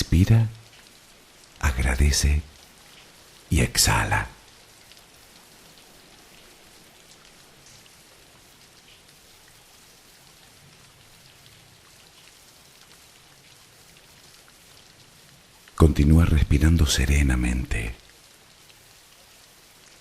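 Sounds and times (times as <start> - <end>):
scattered raindrops: 0.0 - 20.0
steady rain hiss: 0.0 - 20.0.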